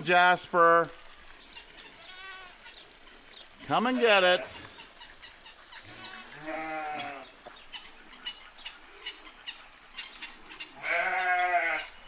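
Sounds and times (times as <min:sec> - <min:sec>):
farm animal calls: 0:00.2 - 0:12.0.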